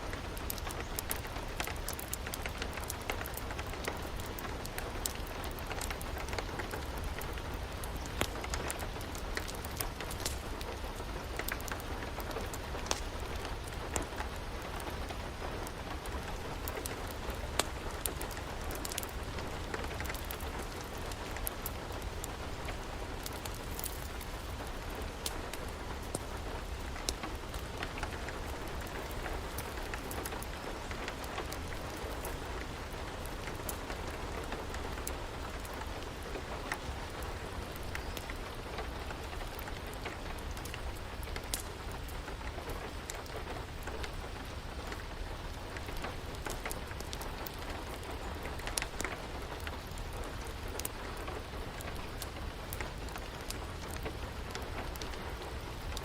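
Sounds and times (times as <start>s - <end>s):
steady rain: 0.0s - 56.0s
wood fire crackling: 0.0s - 56.0s.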